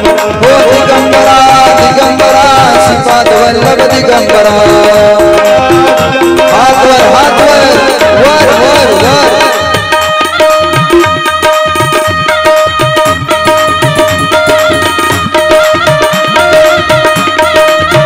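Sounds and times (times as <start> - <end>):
tabla drum rhythm: 0.0 - 18.0.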